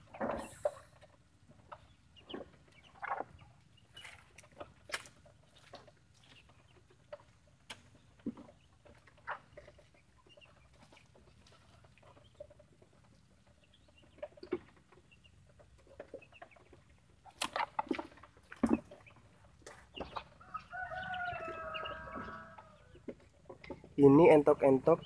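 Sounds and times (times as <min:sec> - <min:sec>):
ducks pecking at plastic trays: 0:00.0 - 0:24.4.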